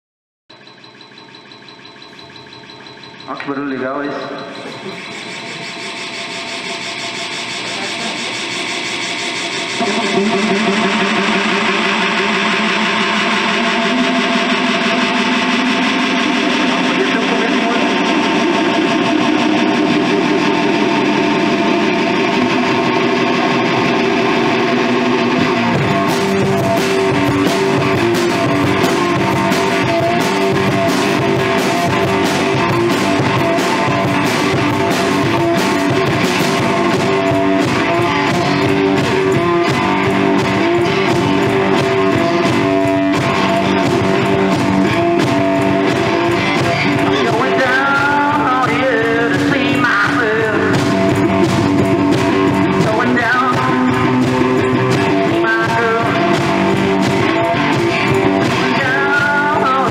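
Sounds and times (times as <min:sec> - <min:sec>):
bass drum and cymbal beat: 0:00.5 - 0:59.9
amplified guitar riff: 0:09.4 - 0:59.9.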